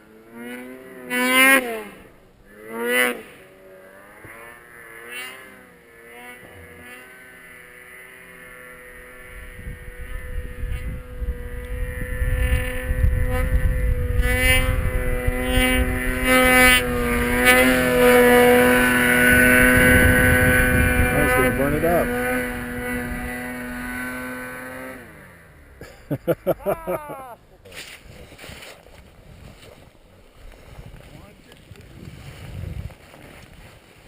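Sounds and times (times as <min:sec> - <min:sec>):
snowmobile engine drone: 0:00.0 - 0:34.0.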